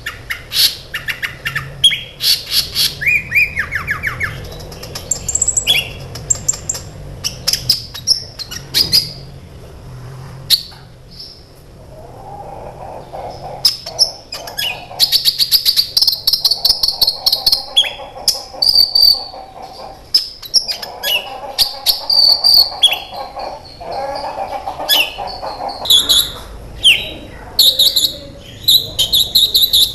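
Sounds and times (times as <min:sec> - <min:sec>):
sunbird singing: 0:00.0 - 0:09.4, 0:12.8 - 0:29.9.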